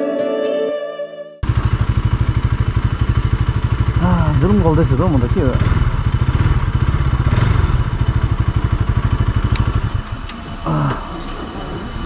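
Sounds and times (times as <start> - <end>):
motorcycle engine running: 1.4 - 12.0.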